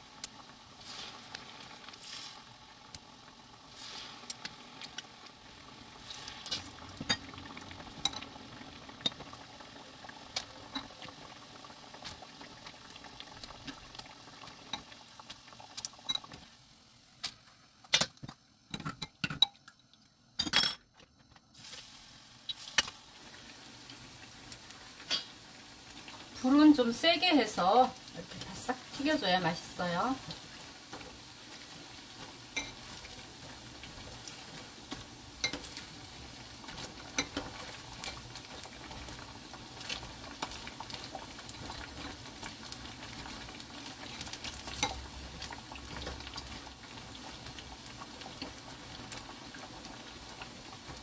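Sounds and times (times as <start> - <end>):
food deep-frying in oil: 0.0 - 51.0.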